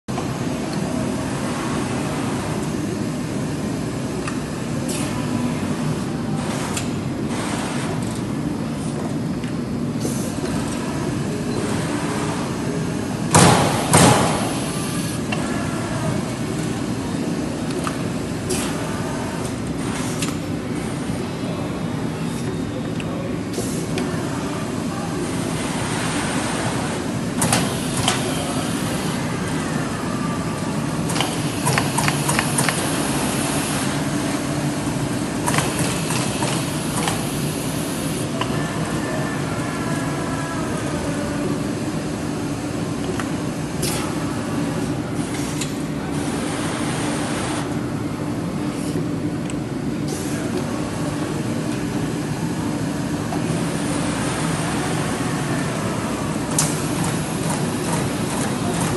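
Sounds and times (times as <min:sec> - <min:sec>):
punch press machine noise: 0:00.1 - 0:58.9.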